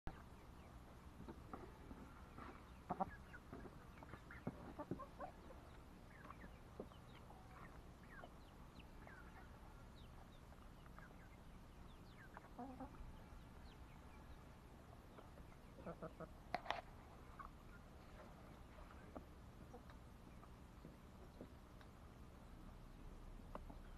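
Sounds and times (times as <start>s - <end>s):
chickens clucking: 0.1s - 23.9s.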